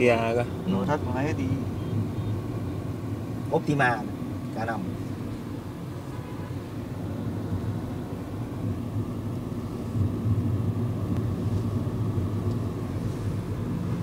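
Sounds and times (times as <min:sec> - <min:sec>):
car engine rumble inside cabin: 0:00.0 - 0:14.0
road noise: 0:00.0 - 0:14.0.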